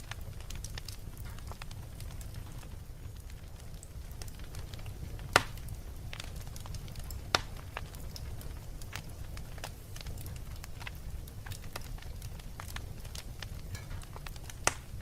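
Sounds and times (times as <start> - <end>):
sharp fire pops: 0.0 - 15.0
wood fire crackling: 0.0 - 15.0.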